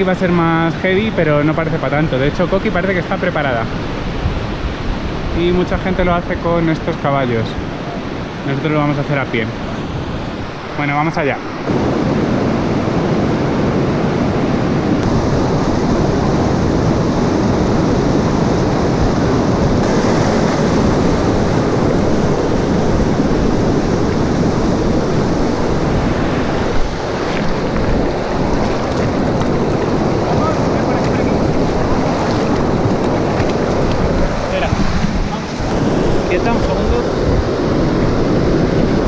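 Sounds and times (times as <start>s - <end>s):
river rushing over stones: 0.0s - 39.0s
wind buffeting microphone: 0.0s - 39.0s.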